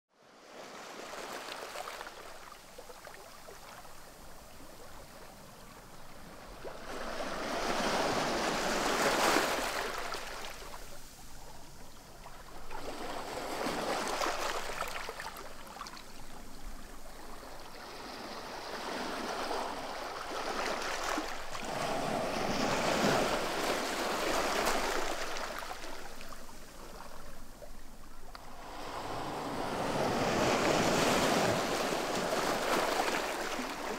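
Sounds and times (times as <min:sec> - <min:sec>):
small waves washing on pebbles: 0:06.2 - 0:33.9.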